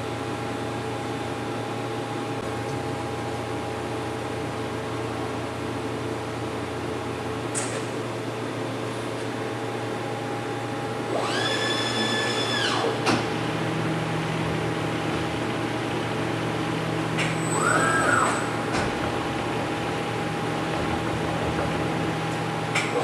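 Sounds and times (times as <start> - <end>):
machining centre humming: 0.0 - 23.0.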